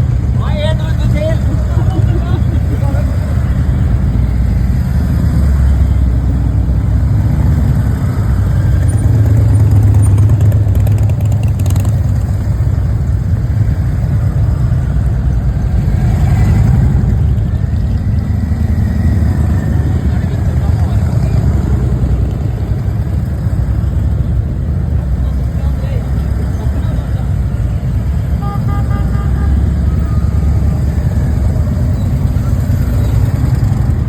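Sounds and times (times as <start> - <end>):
motorcycle engines rumbling: 0.0 - 34.0.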